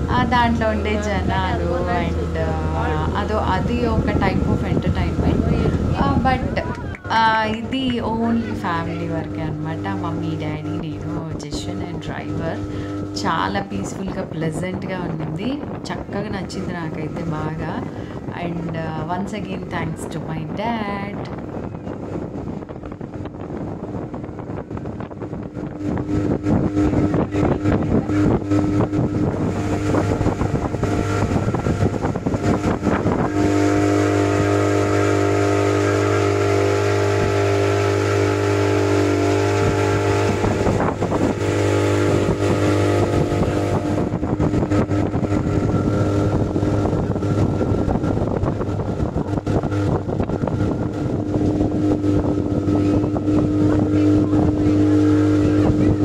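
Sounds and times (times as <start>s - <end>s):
motorboat engine running: 0.0s - 56.0s
wind and rushing water: 0.0s - 56.0s.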